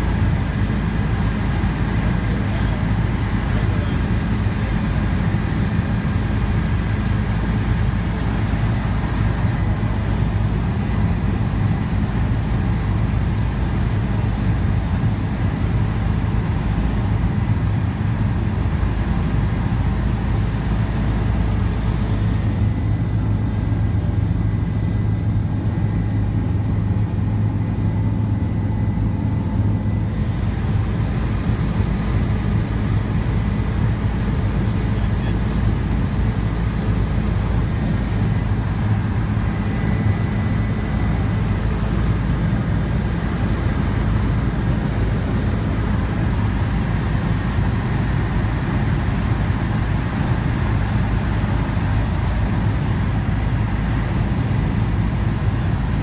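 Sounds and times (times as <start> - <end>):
helicopter rotor and turbine drone: 0.0 - 56.0.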